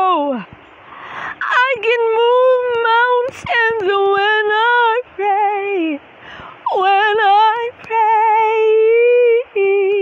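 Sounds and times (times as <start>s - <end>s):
woman singing with vibrato: 0.0s - 0.6s, 1.3s - 10.0s.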